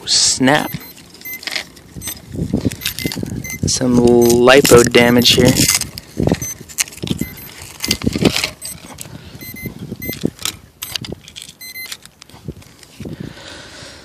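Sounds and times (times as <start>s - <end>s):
drone frame clicking and rattling: 0.7s - 12.1s.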